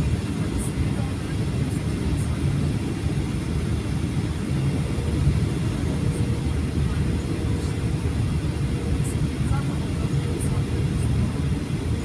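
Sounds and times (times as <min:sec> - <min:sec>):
airplane cabin engine noise: 0:00.0 - 0:12.0.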